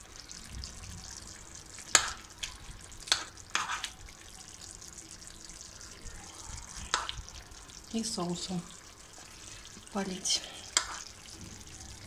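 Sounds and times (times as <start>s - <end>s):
sauce simmering hiss: 0.0s - 12.0s.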